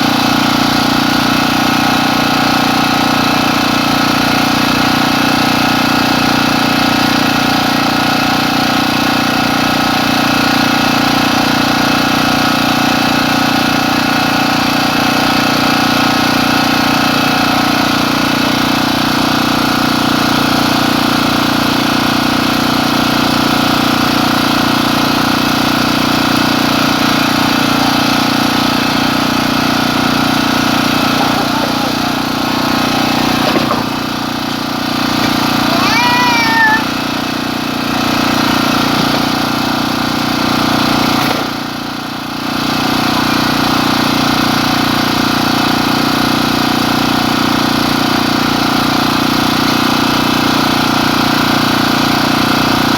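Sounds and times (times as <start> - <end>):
engine humming steadily: 0.0 - 52.9.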